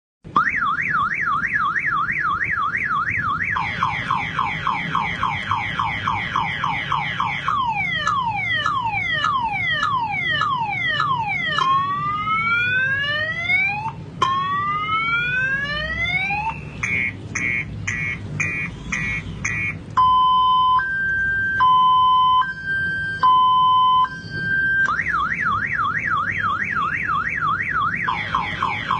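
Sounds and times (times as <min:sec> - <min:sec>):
beatboxed car alarm siren: 0:00.3 - 0:28.9.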